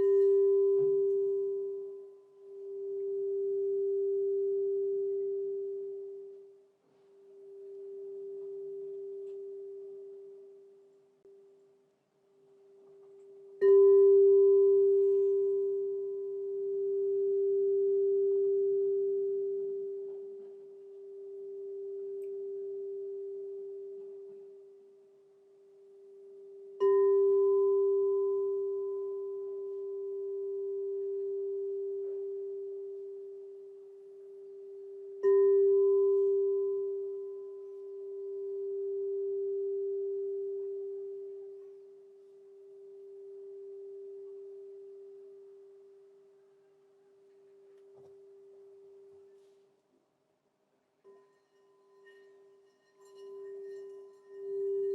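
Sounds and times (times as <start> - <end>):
crystal singing bowl ringing: 0.0 - 6.6, 7.3 - 10.9, 12.8 - 46.4, 51.0 - 54.9.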